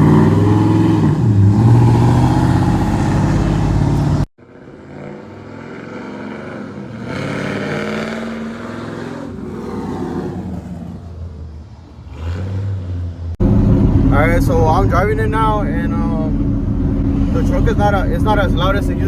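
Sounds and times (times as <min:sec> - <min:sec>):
truck engine accelerating: 0:00.0 - 0:19.0
truck engine through loud exhaust: 0:00.0 - 0:19.0.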